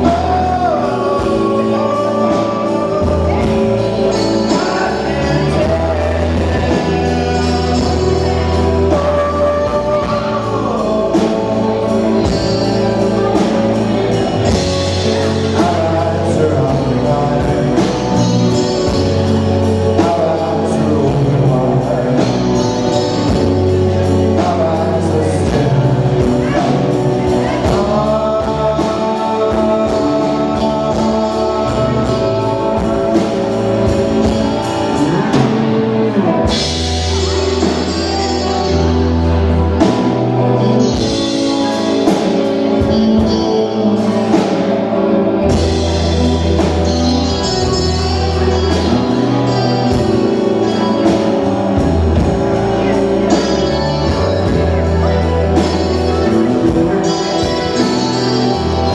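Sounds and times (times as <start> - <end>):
bass: 0.0 - 58.9
electric guitar: 0.0 - 58.9
keyboards: 0.0 - 58.9
man singing: 0.0 - 58.9.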